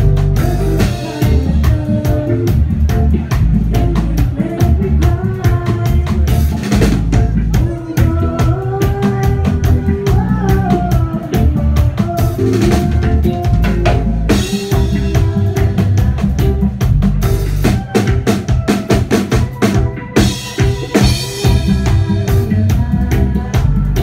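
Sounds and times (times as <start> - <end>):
bass guitar: 0.0 - 24.0
drum kit: 0.0 - 24.0
woman singing: 0.1 - 24.0.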